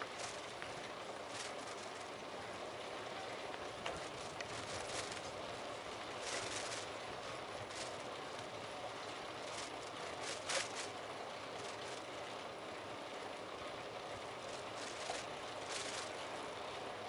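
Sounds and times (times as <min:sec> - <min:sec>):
bicycle road and wind noise: 0:00.0 - 0:17.0.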